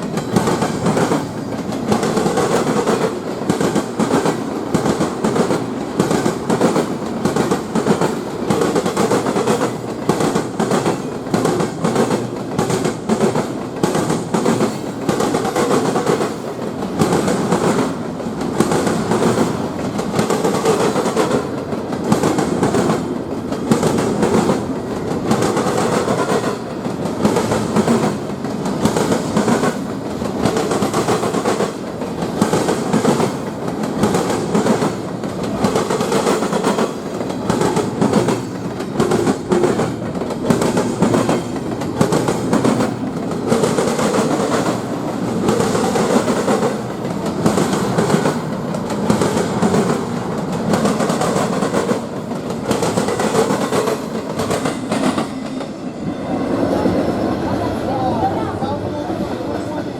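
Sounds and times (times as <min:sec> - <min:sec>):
wheels clacking over rail joints: 0:00.0 - 0:55.9
train rumbling past: 0:00.0 - 0:59.9.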